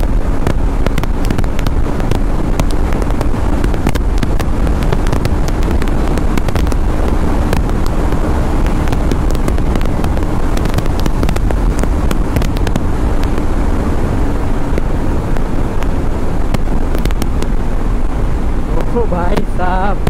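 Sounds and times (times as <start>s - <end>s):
motorcycle engine drone: 0.0s - 20.0s
wind buffeting microphone: 0.0s - 20.0s.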